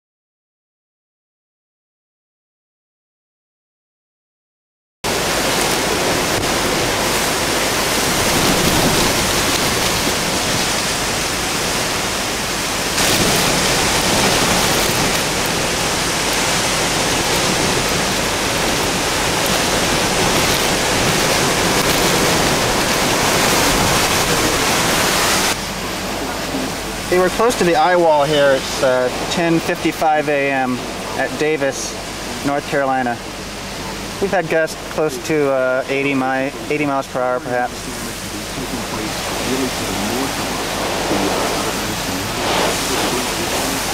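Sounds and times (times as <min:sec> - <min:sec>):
heavy rain: 0:05.0 - 0:43.9
hurricane wind: 0:05.0 - 0:43.9.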